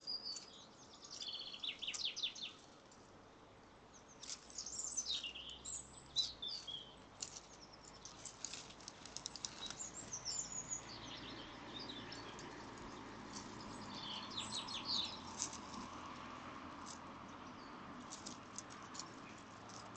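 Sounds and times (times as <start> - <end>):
birds chirping and twittering: 0.0 - 3.0, 3.8 - 16.0, 16.8 - 19.9.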